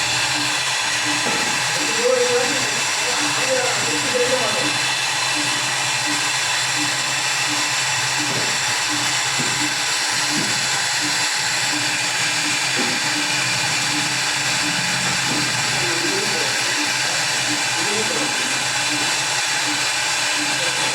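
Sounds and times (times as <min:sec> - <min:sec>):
cnc router spindle whirring: 0:00.0 - 0:20.9.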